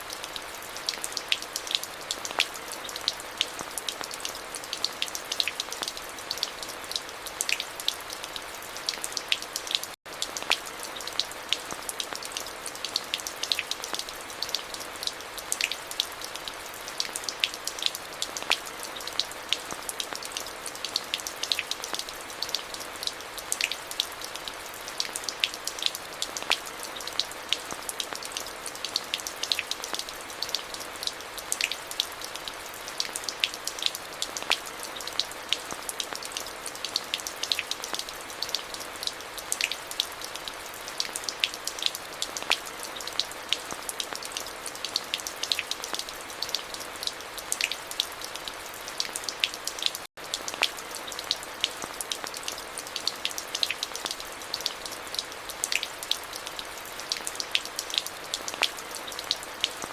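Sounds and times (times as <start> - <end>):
rain drops tapping on hard surfaces: 0.1 - 59.9.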